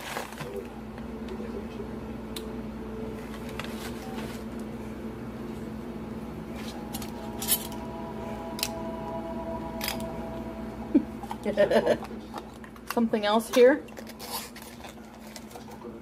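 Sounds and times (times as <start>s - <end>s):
steady low hum: 0.4s - 14.1s.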